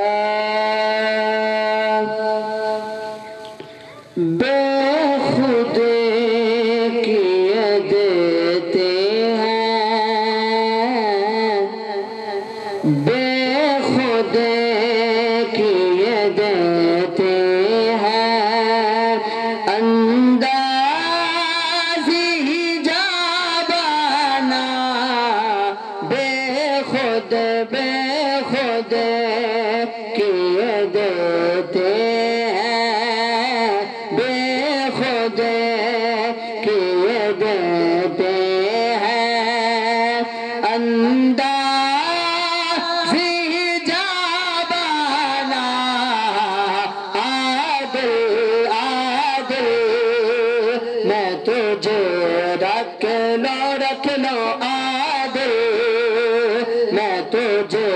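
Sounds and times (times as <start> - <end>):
man chanting melodically: 0.0 - 57.9.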